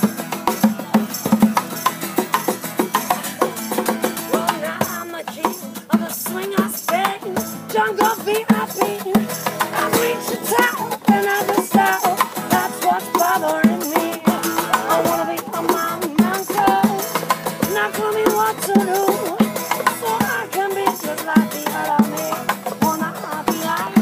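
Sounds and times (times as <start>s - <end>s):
rattling shaker beat: 0.0s - 24.0s.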